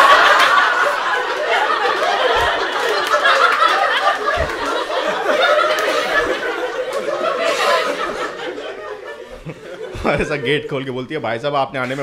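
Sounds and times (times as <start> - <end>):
audience laughing loudly: 0.0 - 11.0.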